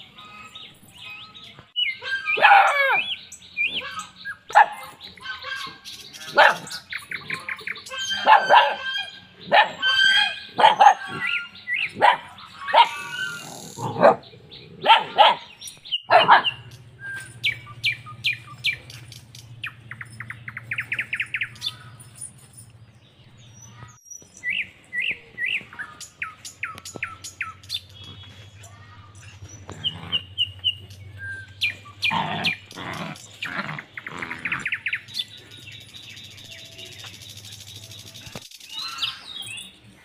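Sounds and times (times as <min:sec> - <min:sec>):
birds chirping: 0:00.0 - 0:40.0
puppies barking and yapping: 0:00.0 - 0:40.0.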